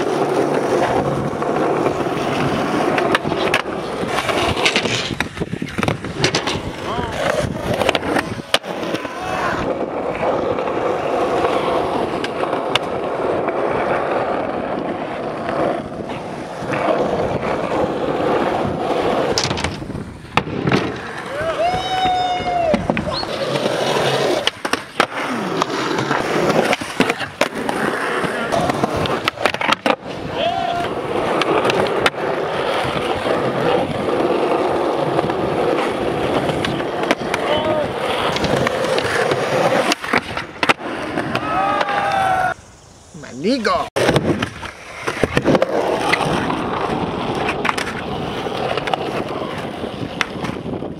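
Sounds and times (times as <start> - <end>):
skateboard clacks: 0.0 - 42.3, 43.9 - 50.9
skateboard wheels rolling on concrete: 0.0 - 50.9.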